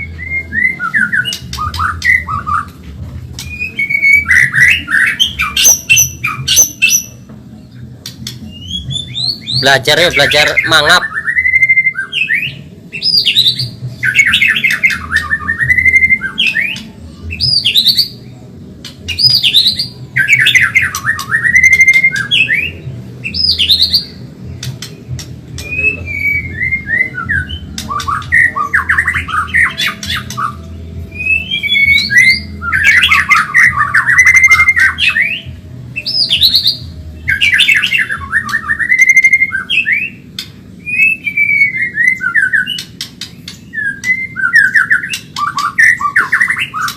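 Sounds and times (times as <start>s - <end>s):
bird singing whistled phrases: 0.0s - 2.7s, 3.4s - 7.1s, 10.2s - 18.2s, 19.1s - 24.1s, 25.6s - 40.2s, 40.8s - 46.9s.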